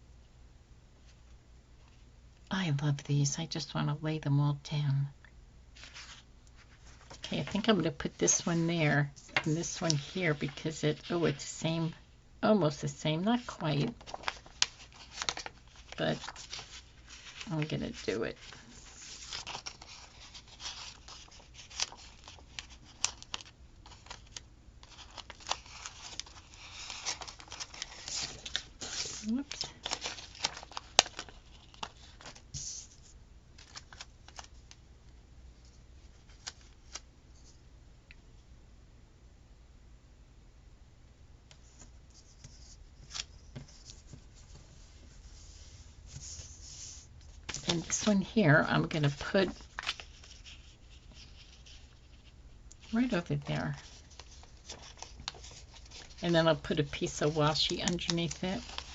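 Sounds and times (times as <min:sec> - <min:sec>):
soft paper rustles: 0:05.8 - 0:12.0, 0:12.7 - 0:37.6, 0:41.5 - 0:58.9.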